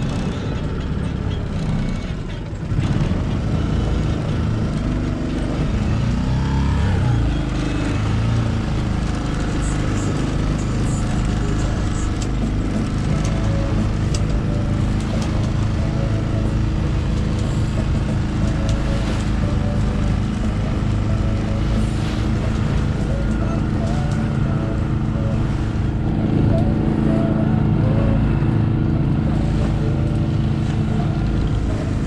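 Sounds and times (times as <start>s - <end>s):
outboard motor running: 0.0s - 32.0s
water rushing along hull: 0.0s - 32.0s.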